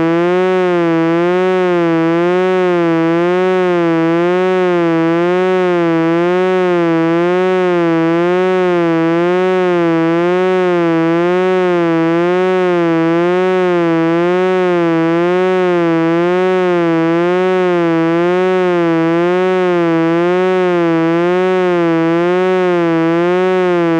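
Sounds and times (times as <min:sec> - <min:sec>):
wavering electronic buzzing tone: 0:00.0 - 0:23.9.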